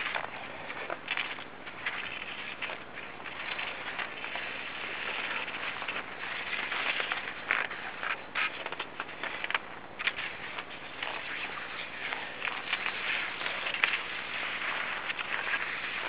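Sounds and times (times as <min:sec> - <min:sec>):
skis sliding over snow: 0:00.0 - 0:16.0.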